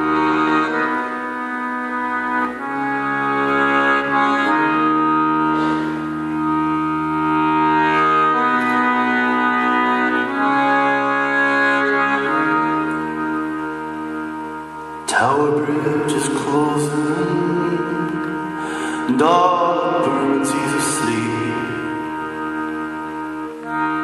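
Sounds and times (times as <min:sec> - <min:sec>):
wind instrument held chords: 0:00.0 - 0:24.0.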